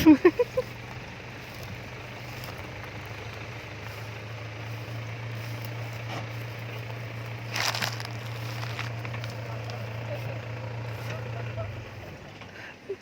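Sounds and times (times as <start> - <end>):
diesel engine idling low: 0.0 - 13.0.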